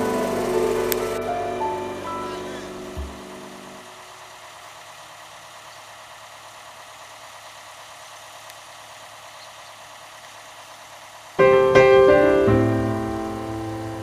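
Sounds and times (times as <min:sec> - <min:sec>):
engine idling with rapid pulsing: 0:00.0 - 0:14.0.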